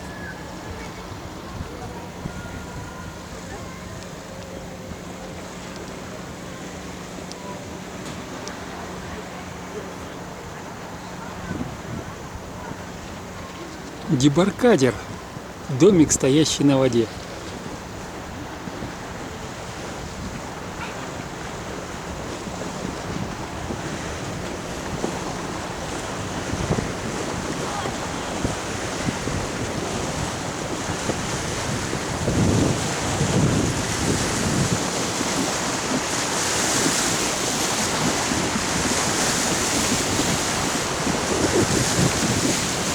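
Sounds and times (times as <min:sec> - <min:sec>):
wind buffeting microphone: 0:00.0 - 0:07.1, 0:10.6 - 0:15.9, 0:16.9 - 0:42.9
water rushing at shore: 0:00.0 - 0:42.9.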